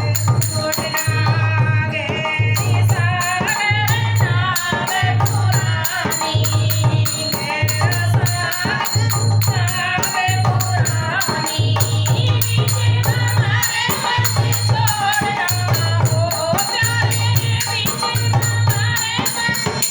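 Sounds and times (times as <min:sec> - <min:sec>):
devotional song with voices: 0:00.0 - 0:19.9
shaker keeping rhythm: 0:02.5 - 0:19.9.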